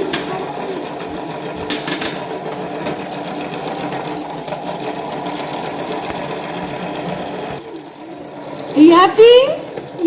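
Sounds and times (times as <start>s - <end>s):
toy washing machine motor whirring: 0.0s - 10.0s.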